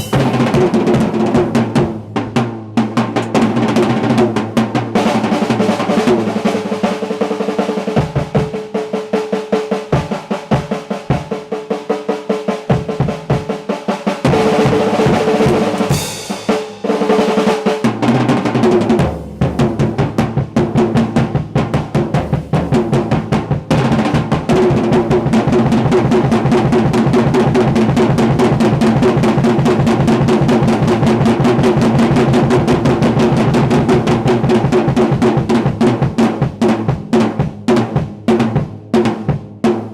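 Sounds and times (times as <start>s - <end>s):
bass drum beats: 0.0s - 6.8s, 7.9s - 8.7s, 12.7s - 39.9s
snare drum rolls: 0.0s - 39.9s.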